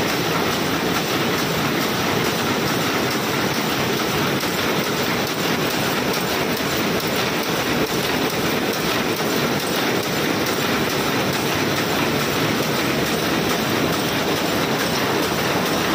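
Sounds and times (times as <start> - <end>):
loom clattering: 0.0 - 15.9.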